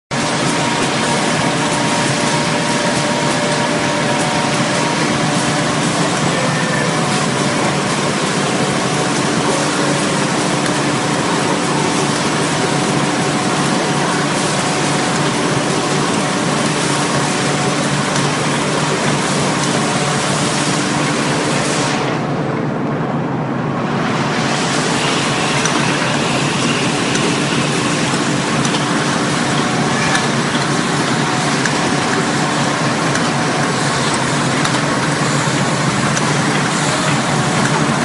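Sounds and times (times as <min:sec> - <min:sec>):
packaging machine running: 0:00.1 - 0:22.6, 0:23.9 - 0:38.0
faint machine hums: 0:00.1 - 0:38.0.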